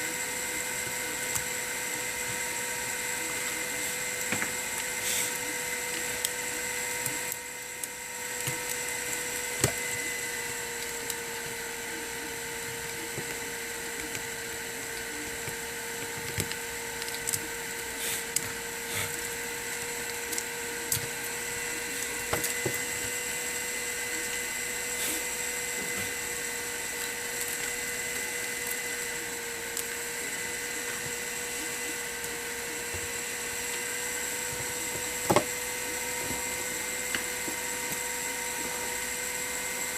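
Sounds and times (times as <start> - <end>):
small motor whine: 0.0 - 39.9.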